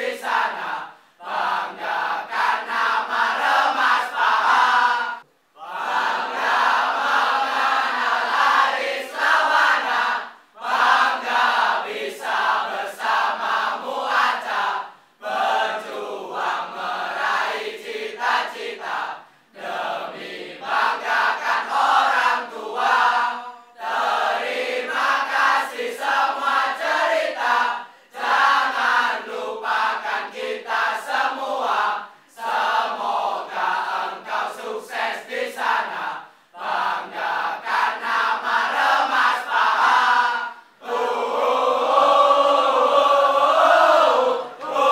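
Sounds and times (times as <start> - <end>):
group of voices chanting: 0.0 - 44.9.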